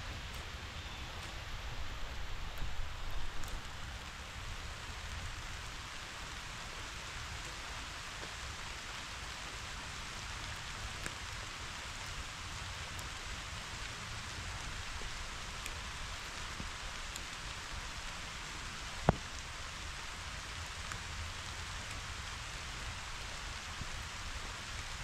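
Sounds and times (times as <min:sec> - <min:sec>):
rain hissing on meadow: 0:00.0 - 0:25.0.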